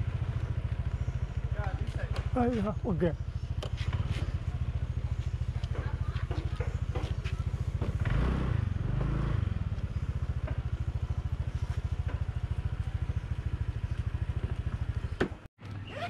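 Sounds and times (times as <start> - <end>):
engine running with low throb: 0.0 - 16.0.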